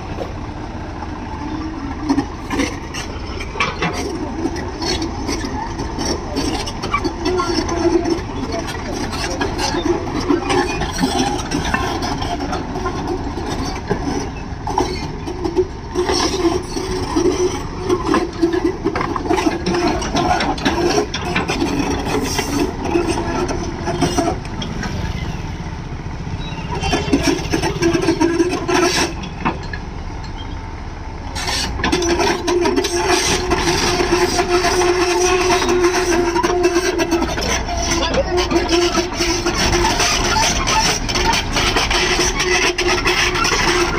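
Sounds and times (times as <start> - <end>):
steel tracks clanking: 0.0 - 25.5, 31.2 - 43.9
diesel engine running: 0.0 - 43.9.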